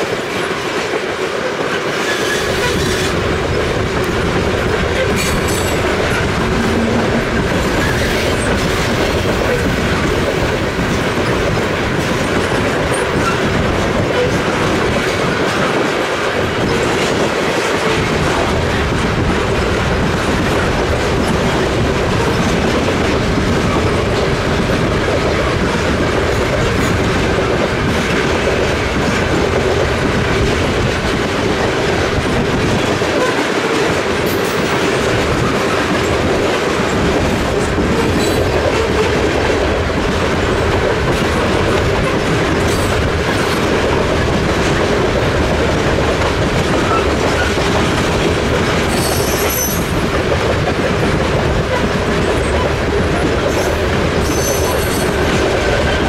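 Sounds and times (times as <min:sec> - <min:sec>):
clickety-clack over rail joints: 0:00.0 - 0:56.0
freight train wheels rumbling: 0:00.0 - 0:56.0.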